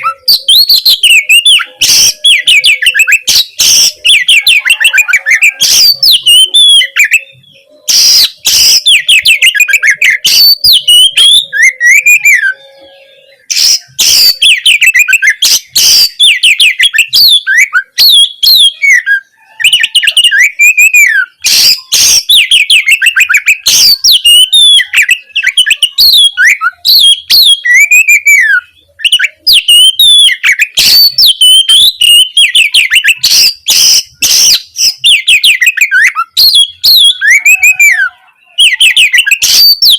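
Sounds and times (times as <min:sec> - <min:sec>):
songbird singing loud varied song: 0:00.0 - 0:39.9.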